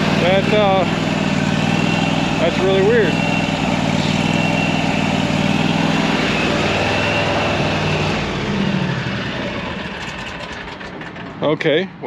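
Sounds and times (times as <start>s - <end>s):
mower engine idling: 0.0s - 12.0s.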